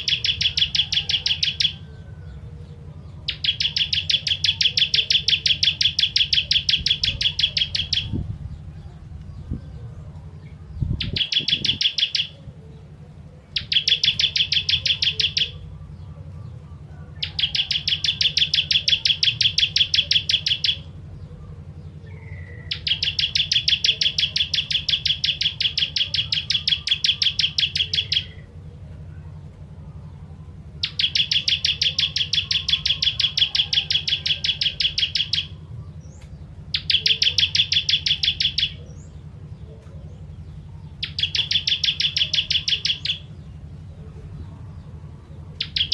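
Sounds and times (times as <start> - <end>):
bird rattling song: 0.0 - 2.0, 3.2 - 16.0, 17.2 - 28.5, 30.8 - 43.8, 45.5 - 45.9
steady low hum: 0.0 - 45.9.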